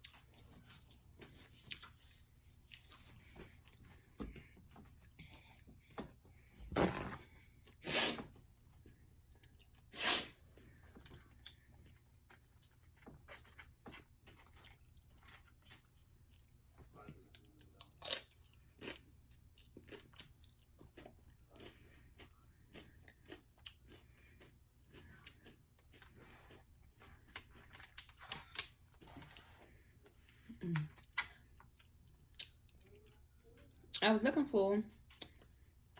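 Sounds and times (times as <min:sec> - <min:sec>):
soft crackling chews: 0:00.0 - 0:06.5, 0:08.6 - 0:34.0.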